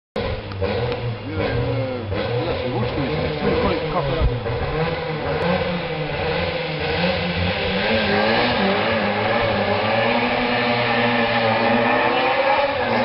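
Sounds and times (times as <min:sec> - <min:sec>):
rally car engine revving: 0:00.2 - 0:13.0.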